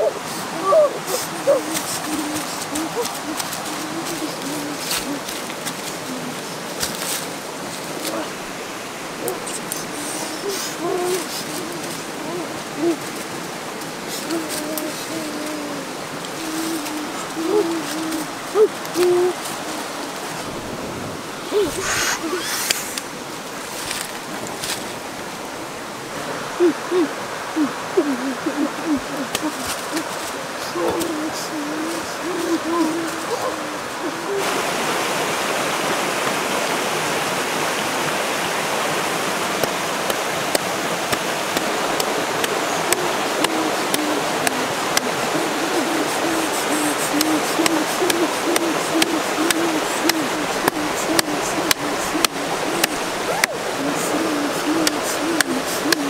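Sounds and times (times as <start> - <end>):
low hooting call: 0.0 - 6.8, 7.5 - 23.2, 26.2 - 34.6, 41.1 - 56.0
steady hiss: 0.0 - 56.0
stream flowing: 0.0 - 56.0.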